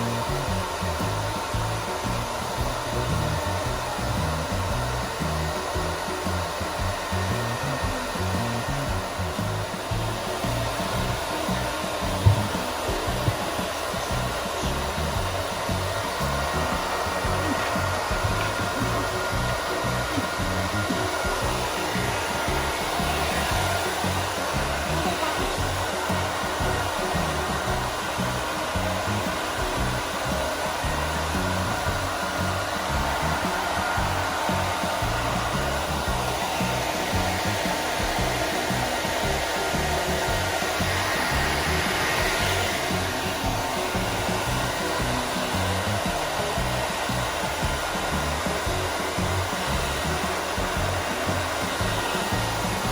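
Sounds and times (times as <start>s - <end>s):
hair dryer running: 0.0s - 52.9s.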